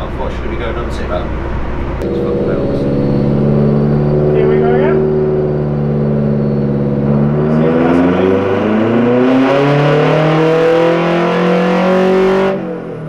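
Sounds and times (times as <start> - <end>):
turbocharged engine revving under load: 0.8 - 13.0.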